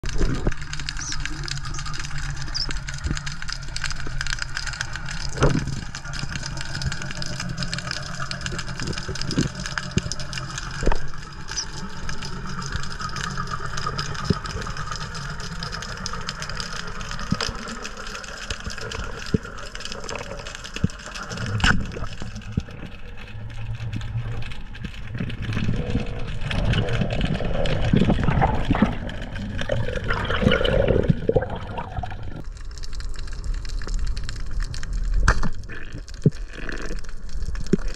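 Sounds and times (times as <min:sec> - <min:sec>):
water rushing underwater: 0:00.0 - 0:37.9.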